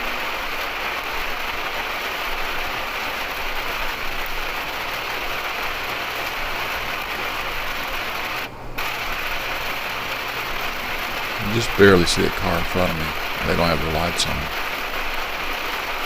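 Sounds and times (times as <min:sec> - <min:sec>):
engine running low: 0:00.0 - 0:16.0
heavy rain hiss: 0:00.0 - 0:16.0
wet road noise: 0:00.0 - 0:16.0.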